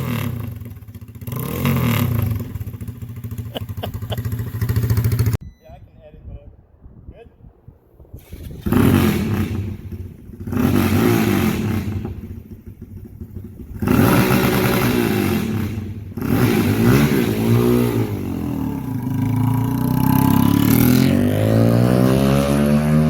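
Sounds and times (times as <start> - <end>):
motorcycle engine revving: 0.0 - 5.4, 8.2 - 23.0.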